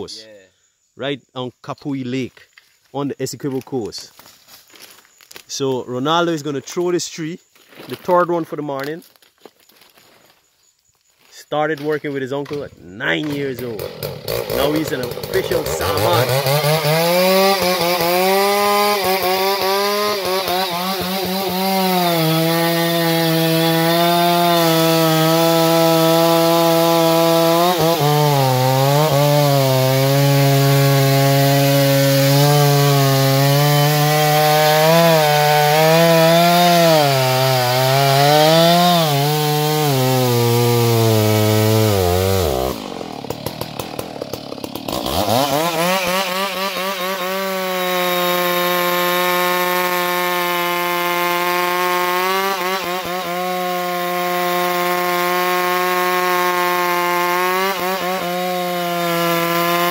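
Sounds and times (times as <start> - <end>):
chainsaw cutting tree trunk: 11.8 - 59.9.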